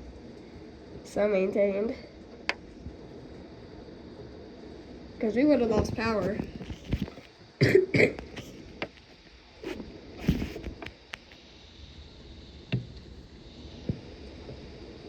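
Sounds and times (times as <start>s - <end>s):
wind and rain hissing: 0.0s - 15.0s.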